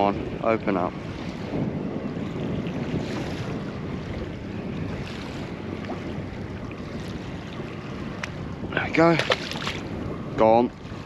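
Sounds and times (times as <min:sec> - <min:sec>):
water lapping against boat hull: 0:00.0 - 0:11.0
wind on microphone: 0:00.0 - 0:11.0.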